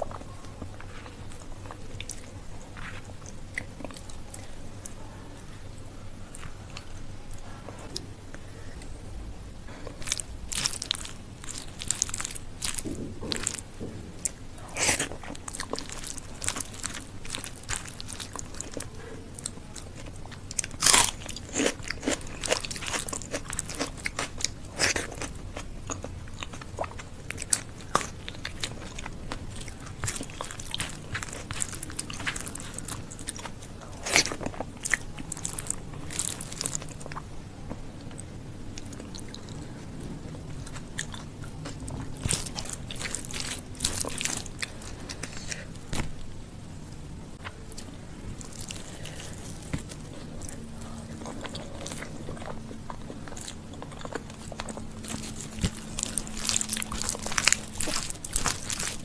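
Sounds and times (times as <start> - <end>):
close chewing: 9.7 - 46.3, 47.4 - 59.0.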